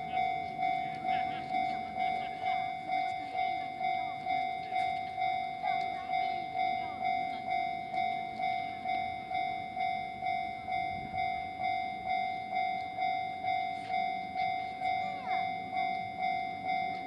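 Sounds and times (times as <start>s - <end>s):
level-crossing warning bell clanging: 0.0s - 17.0s
low rumble of rail noise: 0.0s - 17.0s.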